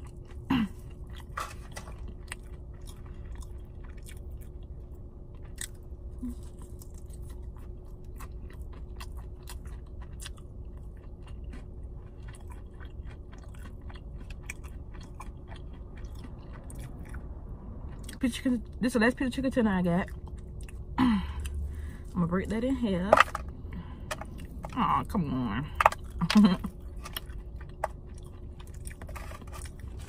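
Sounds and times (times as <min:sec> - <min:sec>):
person chewing food: 0:00.0 - 0:18.2, 0:20.0 - 0:22.2, 0:23.2 - 0:30.0
steady low hum: 0:00.0 - 0:30.0.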